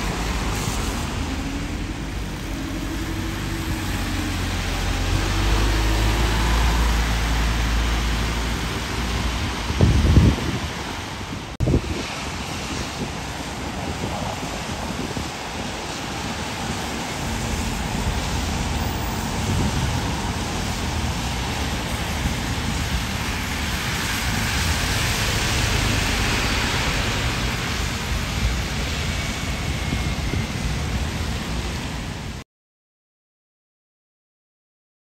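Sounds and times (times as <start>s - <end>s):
falling rain: 0.0s - 32.4s
tyres hissing on wet road: 0.0s - 32.4s.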